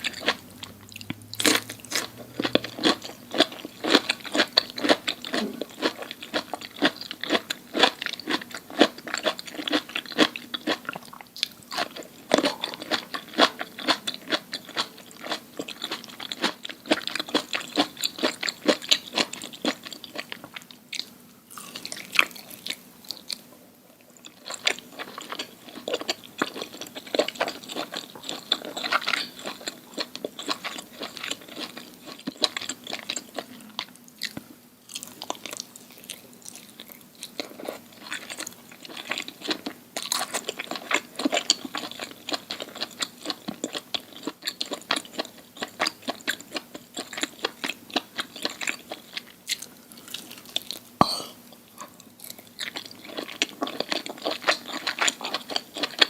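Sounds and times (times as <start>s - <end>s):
crunchy food chewing: 0.0s - 56.0s.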